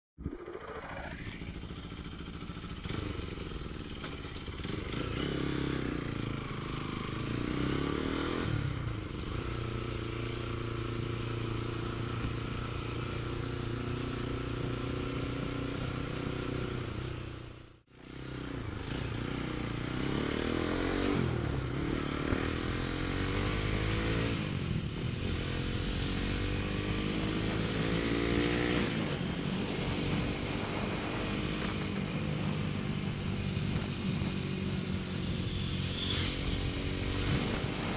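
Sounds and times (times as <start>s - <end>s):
motorcycle engine accelerating: 0.2s - 37.9s.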